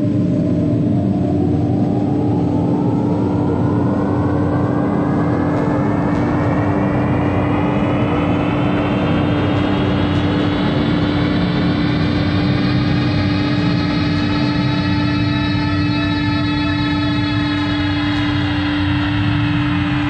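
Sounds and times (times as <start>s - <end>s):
electronic chill-out music: 0.0s - 20.0s.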